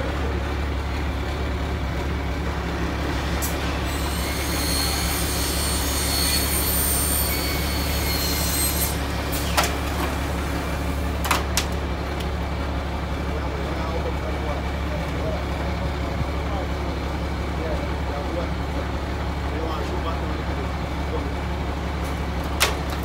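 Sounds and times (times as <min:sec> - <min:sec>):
diesel engine running: 0:00.0 - 0:06.2, 0:06.8 - 0:23.0.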